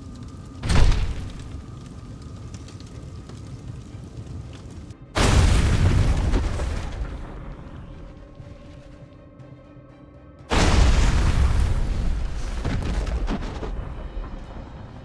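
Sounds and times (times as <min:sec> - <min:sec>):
explosion blast: 0:00.0 - 0:08.1, 0:10.5 - 0:15.0
explosion rumble: 0:00.0 - 0:08.8, 0:10.5 - 0:15.0.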